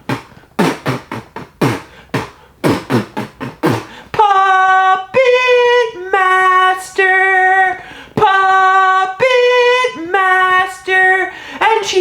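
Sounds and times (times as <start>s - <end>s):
vocal percussion beats: 0.0s - 12.0s.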